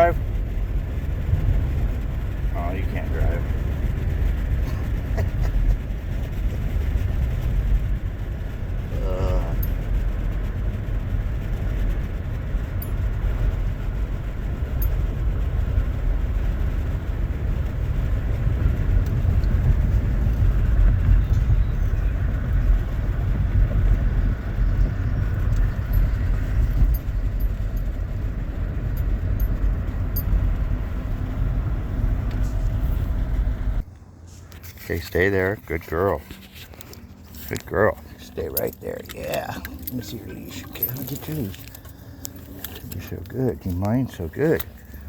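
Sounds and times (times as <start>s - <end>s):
car engine rumble inside cabin: 0.0s - 45.0s.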